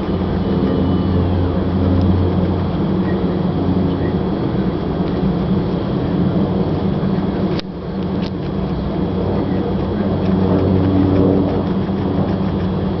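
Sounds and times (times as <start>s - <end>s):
low motor drone: 0.0s - 13.0s.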